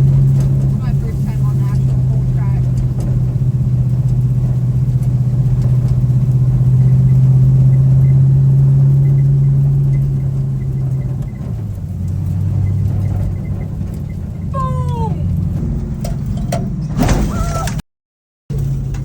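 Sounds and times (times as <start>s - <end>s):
pickup truck engine pulling: 0.0s - 17.8s, 18.5s - 19.0s.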